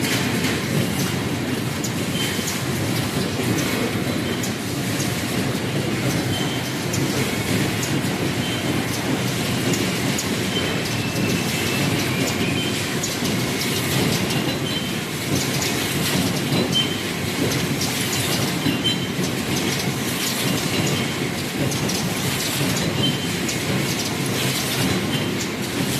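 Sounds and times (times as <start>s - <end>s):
machines clattering: 0.0s - 25.9s.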